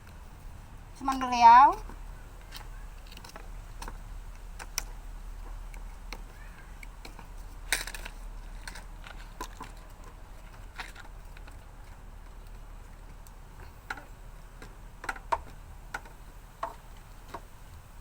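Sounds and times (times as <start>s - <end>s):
small hard objects clicking: 1.1s - 17.5s.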